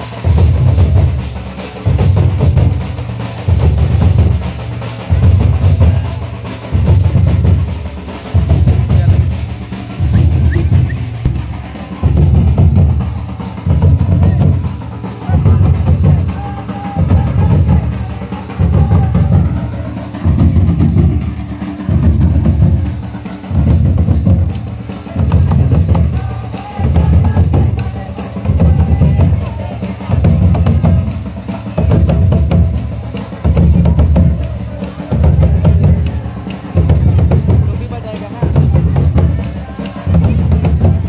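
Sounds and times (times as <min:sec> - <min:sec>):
deep booming drum strokes: 0:00.0 - 0:41.0.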